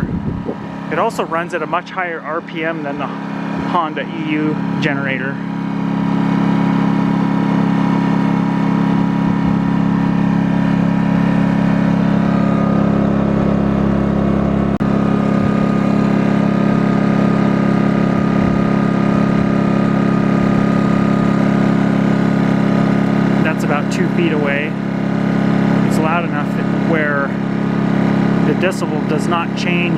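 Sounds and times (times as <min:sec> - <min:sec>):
generator engine drone: 0:00.0 - 0:29.9.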